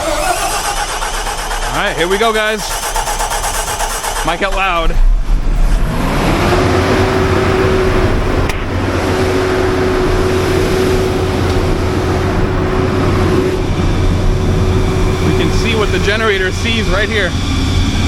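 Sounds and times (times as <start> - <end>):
generator engine running: 0.0 - 18.0
rising whine: 0.0 - 18.0.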